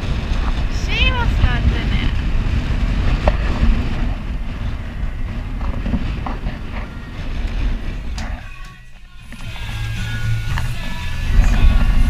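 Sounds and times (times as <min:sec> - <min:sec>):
sea rushing past hulls: 0:00.0 - 0:12.0
wind buffeting microphone: 0:00.0 - 0:12.0.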